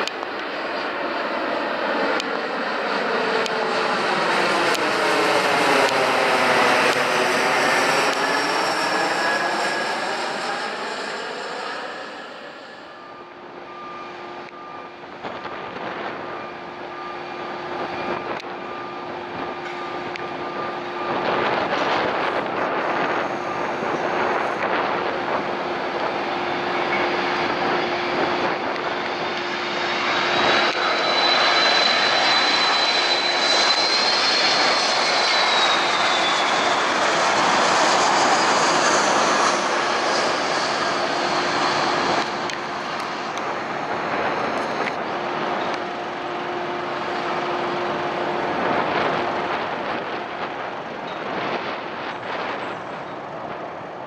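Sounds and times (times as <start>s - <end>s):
jet airliner passing overhead: 0.0s - 54.0s
jet engines with high fan whine: 0.0s - 54.0s.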